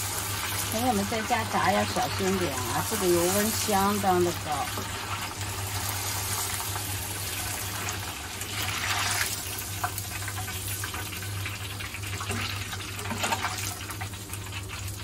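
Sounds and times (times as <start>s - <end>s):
tofu deep-frying in hot oil: 0.0s - 15.0s.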